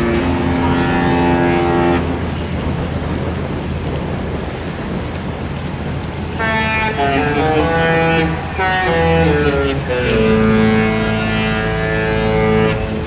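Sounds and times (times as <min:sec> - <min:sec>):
low rumble: 0:00.0 - 0:13.0
ship's horn chord: 0:00.0 - 0:13.0
wind noise: 0:00.0 - 0:13.0.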